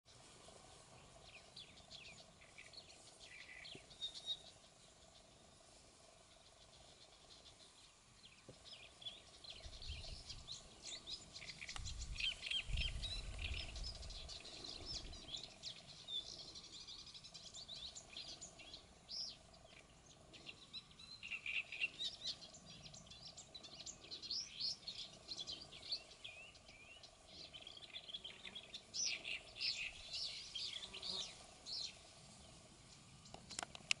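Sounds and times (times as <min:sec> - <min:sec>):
warbler singing: 0:00.1 - 0:34.0.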